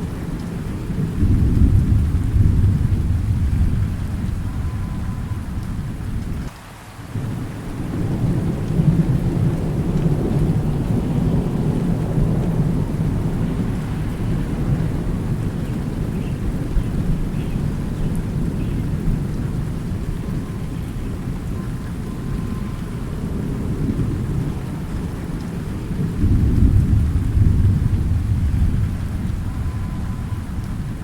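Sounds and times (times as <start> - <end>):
low rolling thunder rumble: 0.0 - 6.5, 7.2 - 31.0
steady rain: 0.0 - 31.0.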